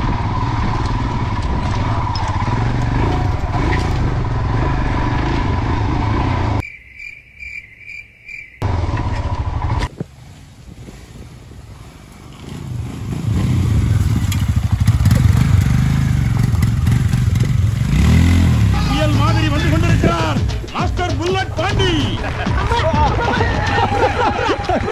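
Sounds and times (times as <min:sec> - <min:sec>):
motorcycle engine revving: 0:00.0 - 0:06.6, 0:08.6 - 0:24.7.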